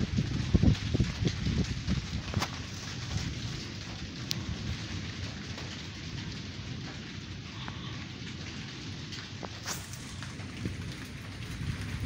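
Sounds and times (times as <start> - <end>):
low rumble: 0.0 - 12.0
rain falling: 0.0 - 12.0.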